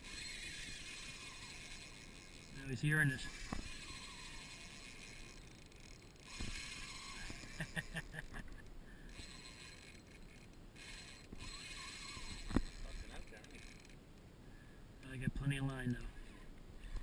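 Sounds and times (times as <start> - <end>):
fishing reel whirring: 0.0 - 14.0
quick run of reel clicks: 0.0 - 14.0.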